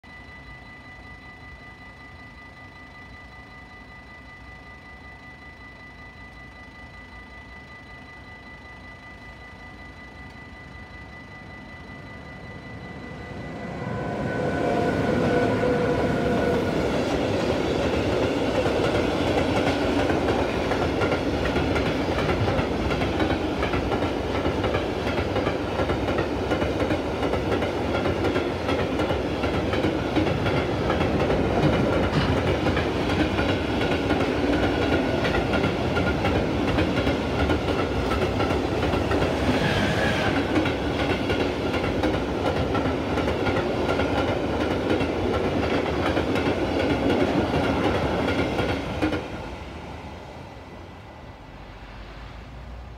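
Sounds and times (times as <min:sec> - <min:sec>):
electric locomotive whine: 0:00.0 - 0:52.9
train wheels rumbling on rails: 0:00.1 - 0:52.9.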